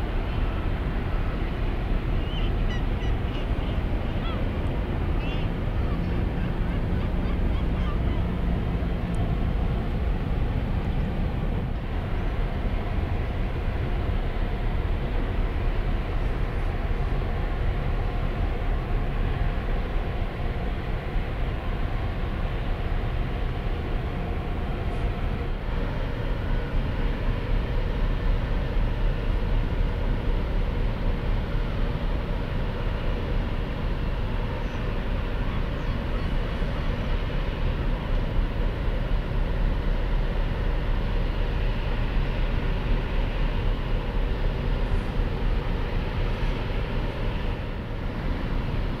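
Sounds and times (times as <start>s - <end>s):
ship engines droning: 0.0s - 49.0s.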